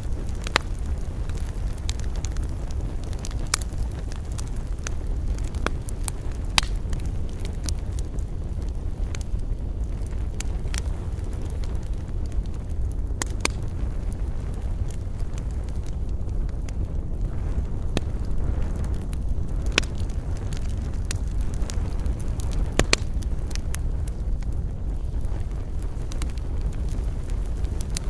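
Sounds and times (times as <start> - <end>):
campfire crackling: 0.0 - 28.0
low rumble of fire: 0.0 - 28.0.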